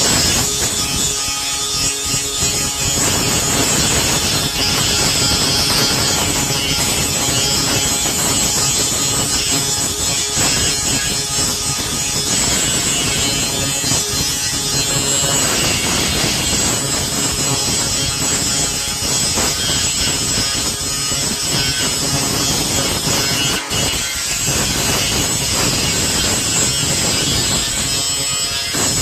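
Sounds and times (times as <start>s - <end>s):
power grinder grinding metal: 0.0s - 29.0s.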